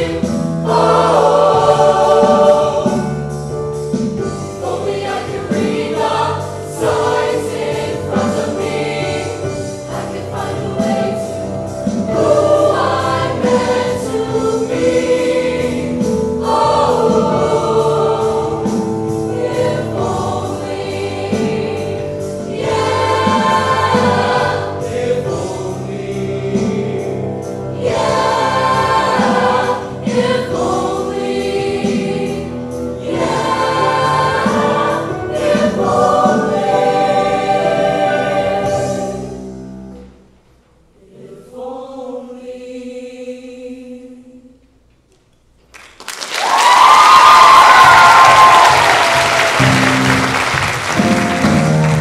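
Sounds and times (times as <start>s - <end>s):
choir singing with band: 0.0s - 40.2s, 41.0s - 44.5s, 46.4s - 52.0s.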